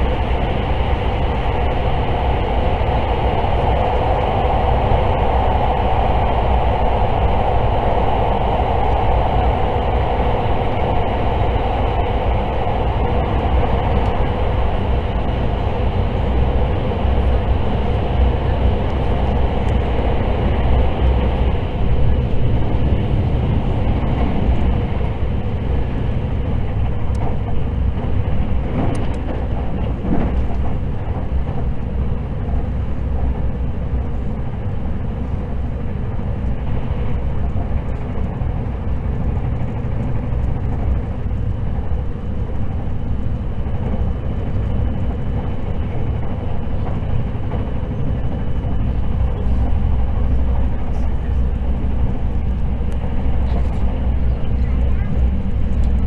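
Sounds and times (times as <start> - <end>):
train roar in tunnel: 0.0 - 56.0.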